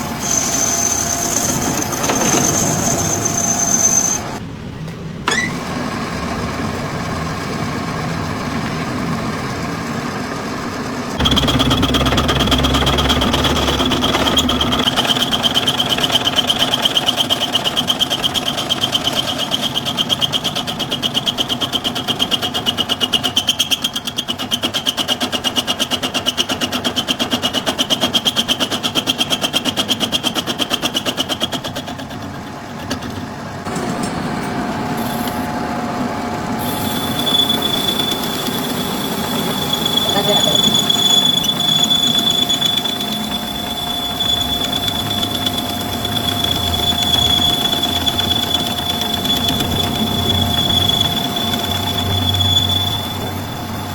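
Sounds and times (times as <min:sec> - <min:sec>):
workshop machine whining and pulsing: 0:00.0 - 0:53.9.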